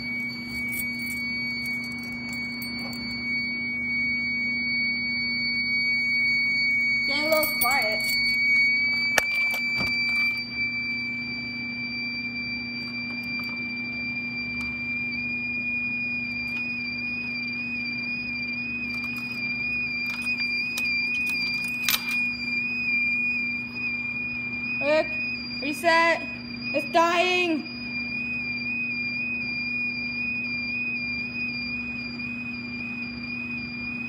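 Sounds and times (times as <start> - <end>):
fire alarm continuous high tone: 0.0 - 34.0
steady low hum: 0.0 - 34.0.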